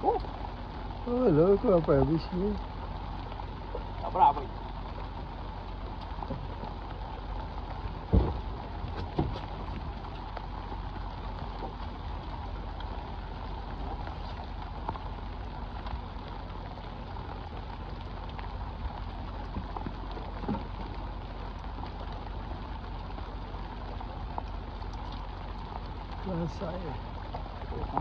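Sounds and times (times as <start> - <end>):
rain on river and boat: 0.0 - 28.0
steady low rumble: 0.0 - 28.0.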